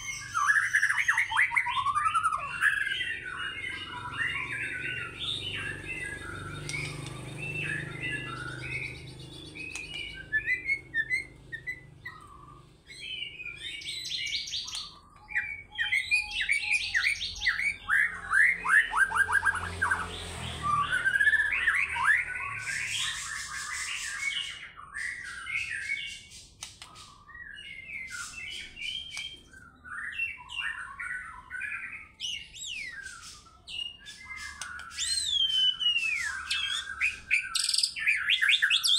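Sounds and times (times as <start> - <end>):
songbird whistling and chattering: 0.0 - 38.9.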